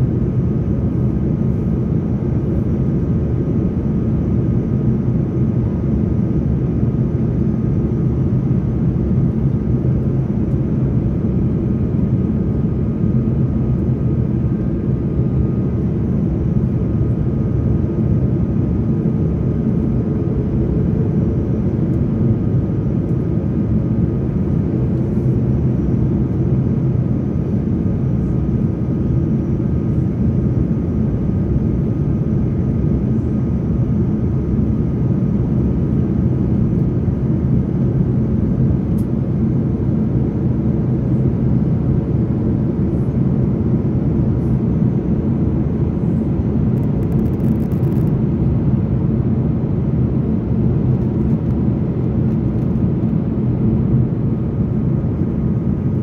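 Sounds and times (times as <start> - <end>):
faint steady whine: 0.0 - 56.0
jet engine rumble: 0.0 - 56.0.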